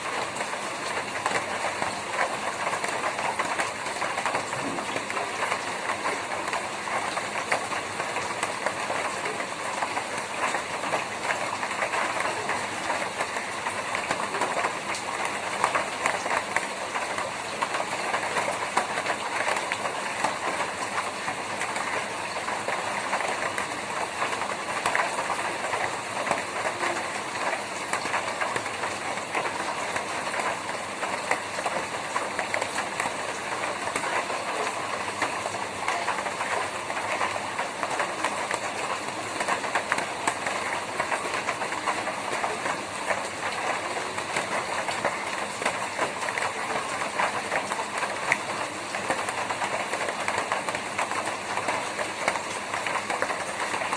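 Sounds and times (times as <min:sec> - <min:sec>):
rain on a tin roof: 0:00.0 - 0:53.9.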